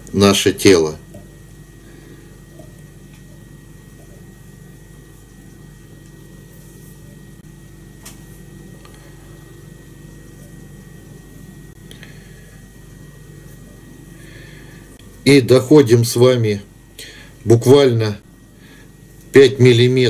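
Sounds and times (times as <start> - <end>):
low hum: 0.0 - 20.0
thin high whine: 0.0 - 20.0.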